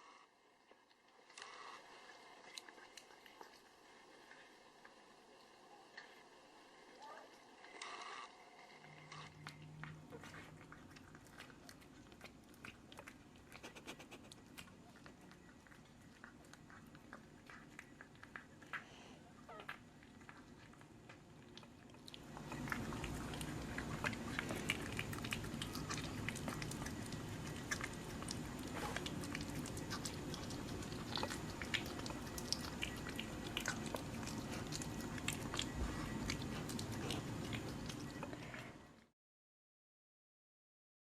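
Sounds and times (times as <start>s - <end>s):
animal chewing and crunching: 1.2s - 39.1s.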